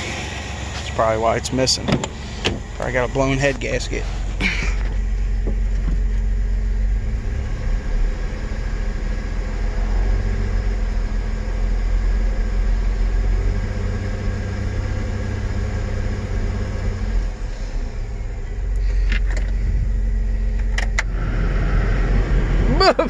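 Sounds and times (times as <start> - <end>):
pickup engine idling with a miss: 0.0 - 23.0.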